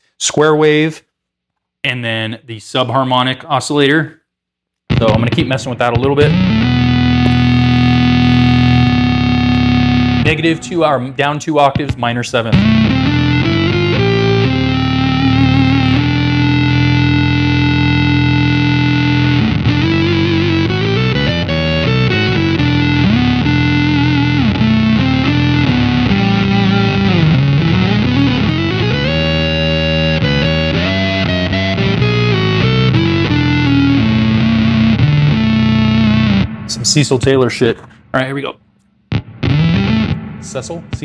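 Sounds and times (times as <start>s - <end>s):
fuzzy synth-like electric guitar: 4.9s - 37.6s, 39.1s - 41.0s.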